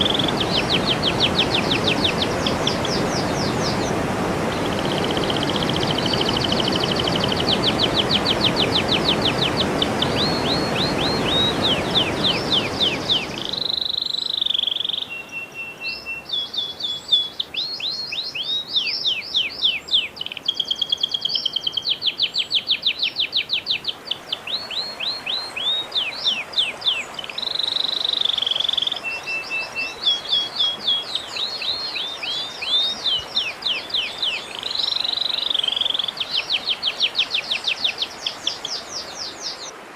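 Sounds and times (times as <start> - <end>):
songbird chirps and whistles: 4.6 - 39.7.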